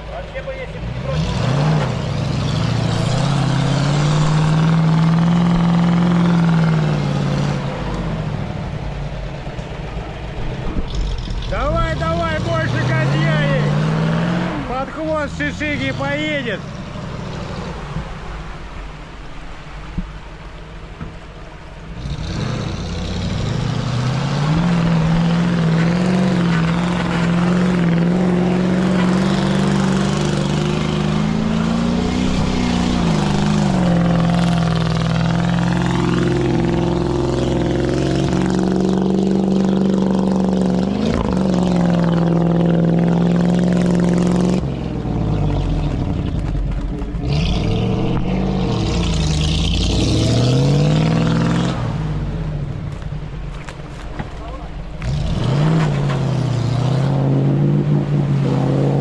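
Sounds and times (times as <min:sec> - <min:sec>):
truck engine revving under load: 0:00.0 - 0:59.0.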